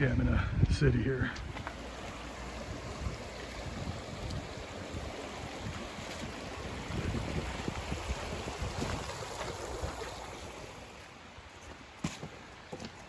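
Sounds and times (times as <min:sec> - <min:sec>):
wind buffeting microphone: 0:00.0 - 0:11.0
creek water rushing: 0:01.3 - 0:12.9.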